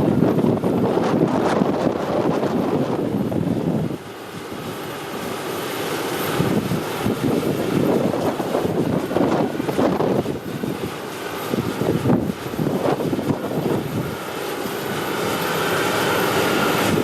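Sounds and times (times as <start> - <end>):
wind buffeting microphone: 0.0 - 4.8, 6.3 - 17.0
jet engines approaching: 0.0 - 17.0.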